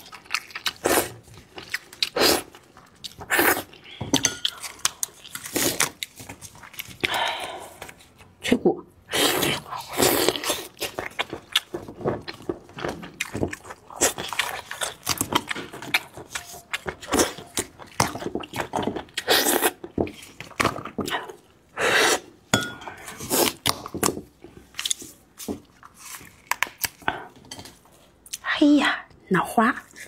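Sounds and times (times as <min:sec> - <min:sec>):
cracking and wet tearing of meat: 0:00.0 - 0:08.3, 0:09.2 - 0:21.5, 0:23.4 - 0:27.1.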